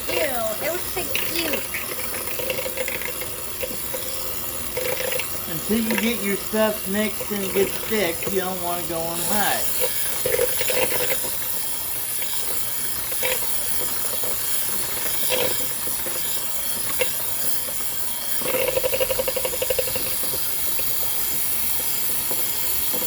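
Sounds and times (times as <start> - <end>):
electric hand mixer running: 0.0 - 23.0.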